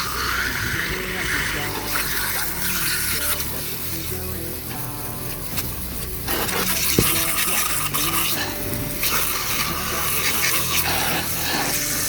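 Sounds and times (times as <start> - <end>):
brush scrubbing: 0.0 - 12.0
quiet background music: 0.0 - 12.0.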